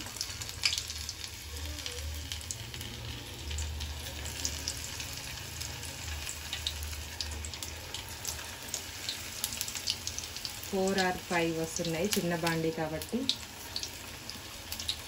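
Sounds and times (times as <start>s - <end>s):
batter frying in hot oil: 0.0s - 15.0s.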